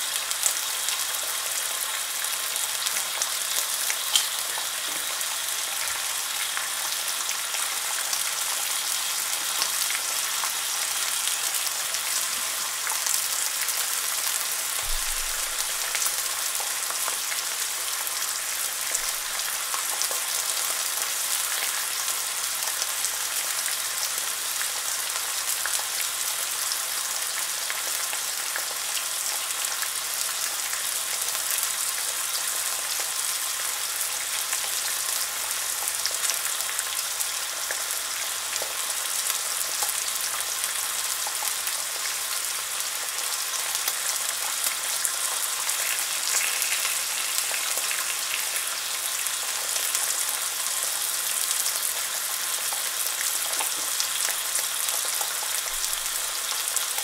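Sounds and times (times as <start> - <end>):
bacon sizzling in a frying pan: 0.0 - 57.0.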